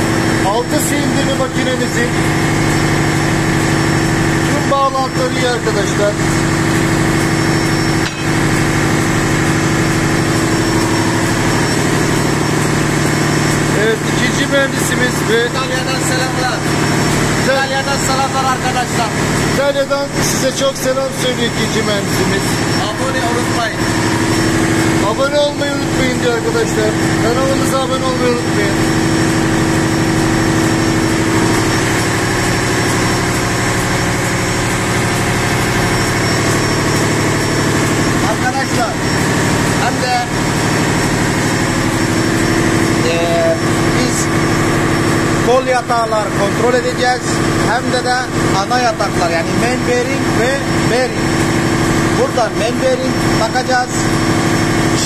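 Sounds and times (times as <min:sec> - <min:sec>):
engine room machinery drone: 0:00.0 - 0:55.0.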